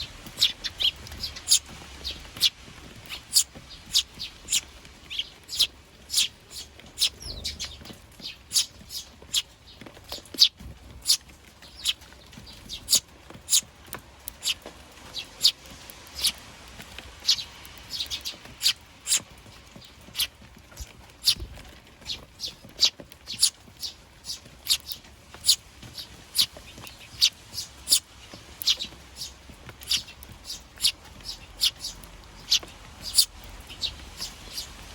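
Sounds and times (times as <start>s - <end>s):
sparrows chirping: 0.0s - 34.9s.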